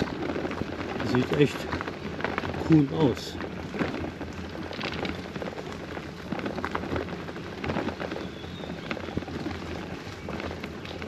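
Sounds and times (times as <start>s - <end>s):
bicycle tyres rolling on path: 0.0s - 11.0s
crackles and rattles: 0.0s - 11.0s
wind rumble on microphone: 0.0s - 11.0s.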